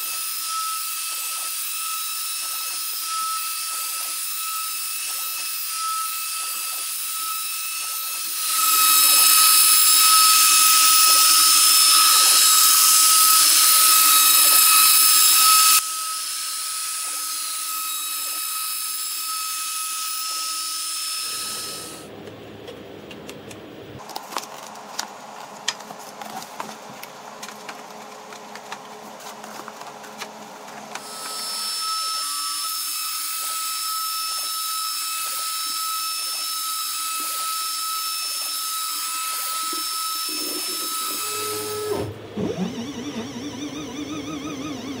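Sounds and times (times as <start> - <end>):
bit cutting wood: 0.0 - 22.1, 30.9 - 45.0
cnc router spindle whine: 0.0 - 22.1, 30.9 - 45.0.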